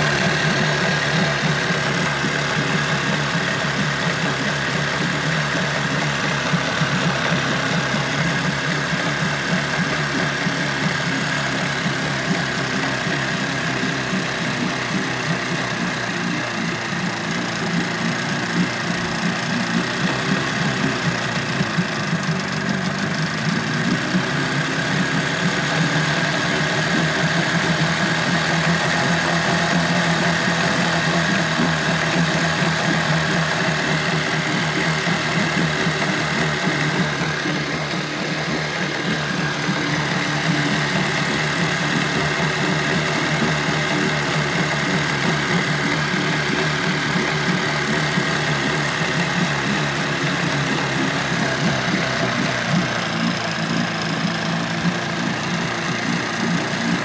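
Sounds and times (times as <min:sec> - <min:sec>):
two-stroke outboard motor running: 0:00.0 - 0:57.0.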